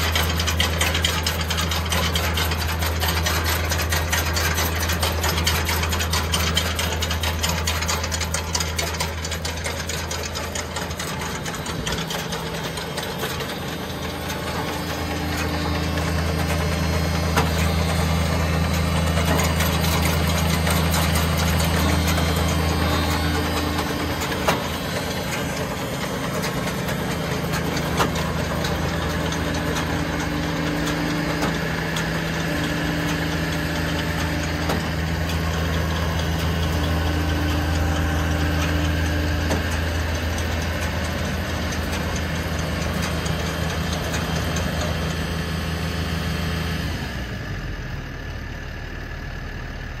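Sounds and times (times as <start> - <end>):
tractor diesel engine idling: 0.0 - 50.0.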